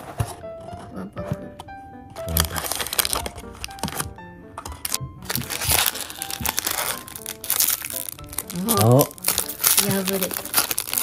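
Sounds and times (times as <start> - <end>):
light background music: 0.0 - 11.0
foil pack crinkling: 2.2 - 11.0.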